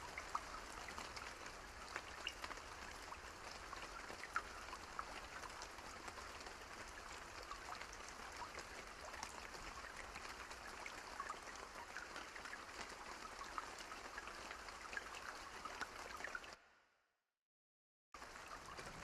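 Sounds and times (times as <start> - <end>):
steady rain: 0.0 - 16.6, 18.2 - 19.0.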